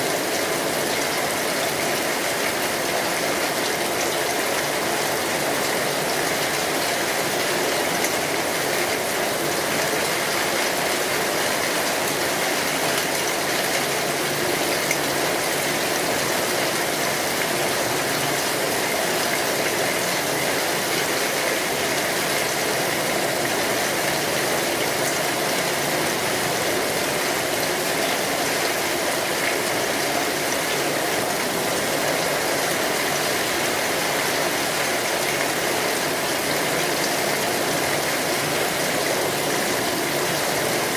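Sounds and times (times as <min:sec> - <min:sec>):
rain falling on an umbrella: 0:00.0 - 0:40.9.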